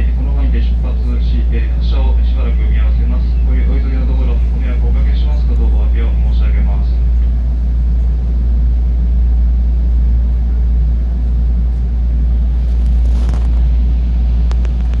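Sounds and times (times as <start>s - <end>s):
electric train rumble and hum: 0.0s - 15.0s.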